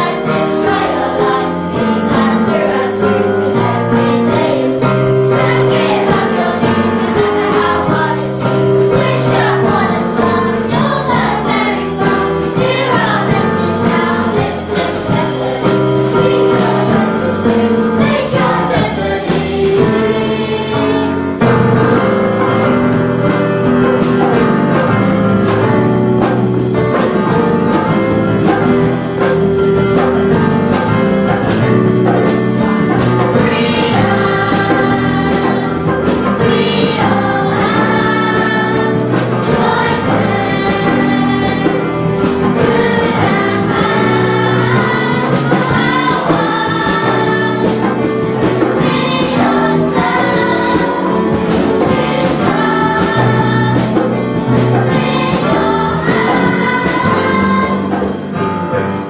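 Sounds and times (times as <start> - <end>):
children's choir singing: 0.0 - 59.0
keyboard accompaniment: 0.0 - 59.0.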